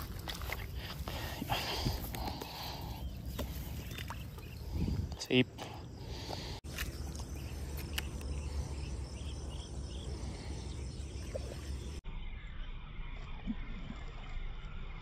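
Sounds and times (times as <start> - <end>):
insects chirping faintly: 0.0 - 15.0.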